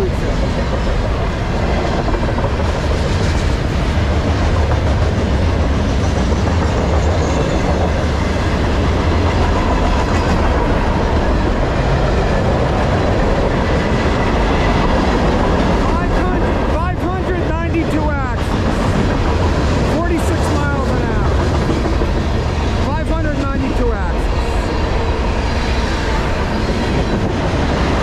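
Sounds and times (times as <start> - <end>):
freight train wheels rolling on rails: 0.0 - 28.0.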